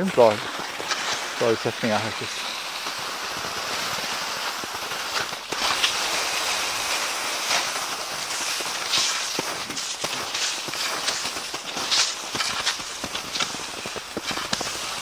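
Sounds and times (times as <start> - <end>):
ski poles crunching into snow: 0.0 - 15.0
skis gliding over crusted snow: 0.0 - 15.0.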